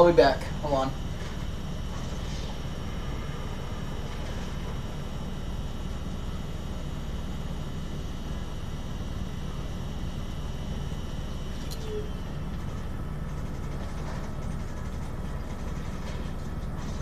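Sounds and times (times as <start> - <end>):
faint high whine: 0.0 - 17.0
low machine hum: 0.0 - 17.0.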